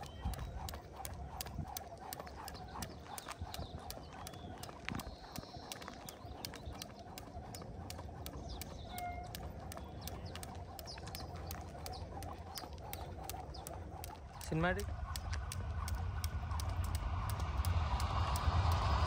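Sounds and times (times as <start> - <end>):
skipping rope slapping ground: 0.0 - 19.0.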